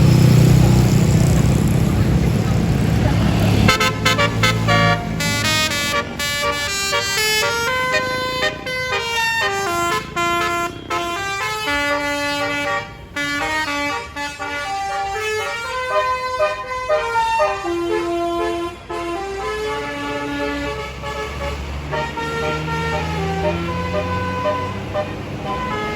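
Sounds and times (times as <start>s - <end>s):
bus air horn playing a tune: 3.5s - 25.9s.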